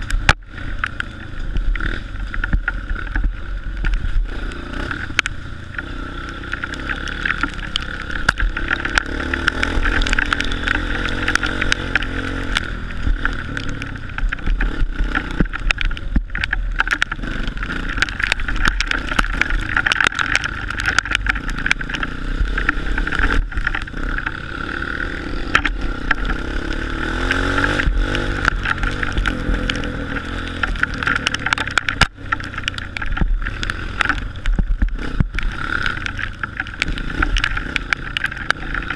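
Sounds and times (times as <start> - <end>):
muffled motorbike engine revving: 0.0 - 38.9.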